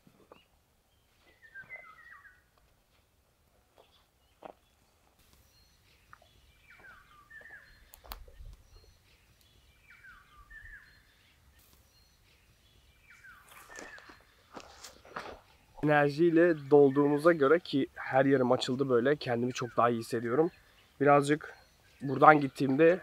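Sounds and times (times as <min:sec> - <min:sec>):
birds calling softly: 0:00.0 - 0:23.0
songbird singing falling notes: 0:00.2 - 0:02.6, 0:03.8 - 0:23.0.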